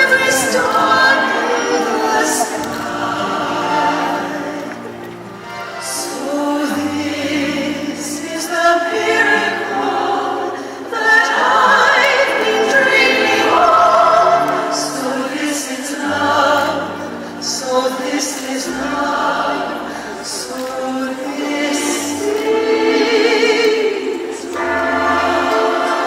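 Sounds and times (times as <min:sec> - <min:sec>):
choir singing sustained notes: 0:00.0 - 0:26.0
orchestral music: 0:00.0 - 0:26.0.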